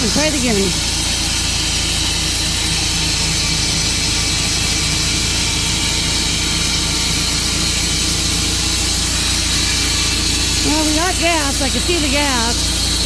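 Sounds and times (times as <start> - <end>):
bandsaw mill engine running: 0.0 - 13.0.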